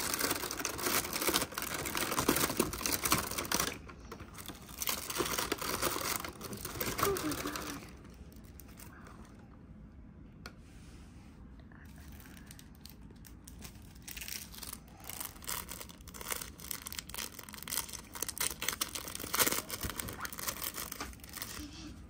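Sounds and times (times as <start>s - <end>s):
packaging crinkling and tearing: 0.0s - 9.0s, 12.0s - 21.8s.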